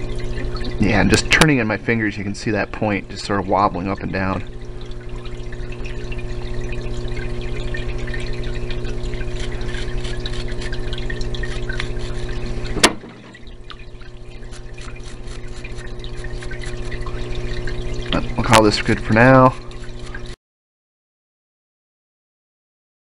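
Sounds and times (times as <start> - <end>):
pump humming: 0.0 - 20.4
solvent pouring and trickling: 0.0 - 20.4.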